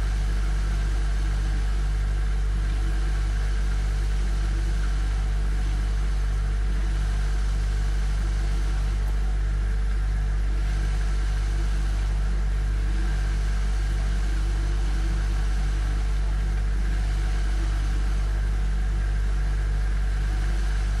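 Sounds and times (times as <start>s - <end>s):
refrigerator compressor hum: 0.0s - 21.0s.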